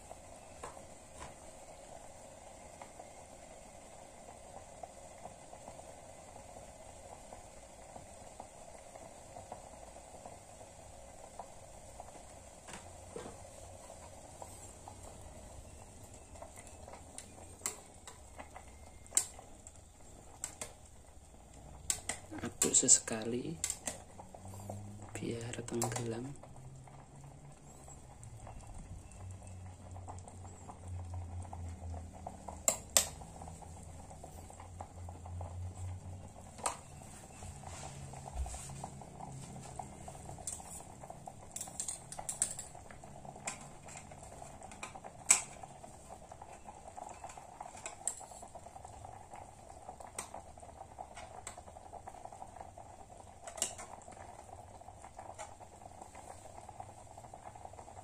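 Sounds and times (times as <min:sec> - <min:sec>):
water boiling in a pot: 0:00.0 - 0:58.0.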